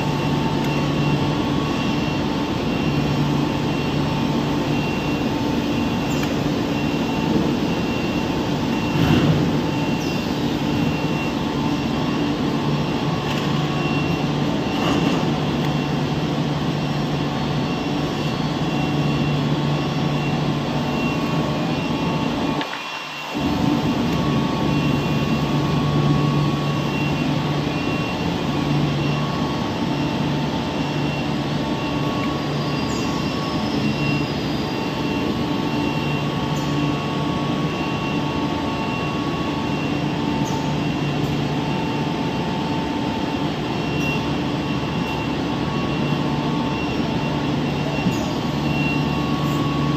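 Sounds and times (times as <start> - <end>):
machine hum: 0.0 - 49.9.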